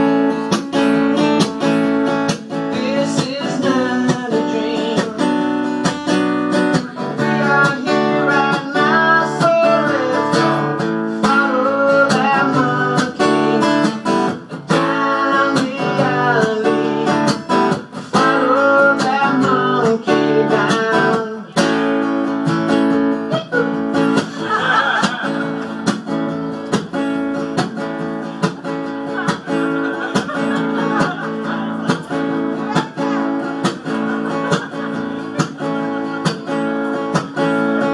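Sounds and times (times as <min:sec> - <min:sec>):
acoustic guitar strumming and picking: 0:00.0 - 0:37.9.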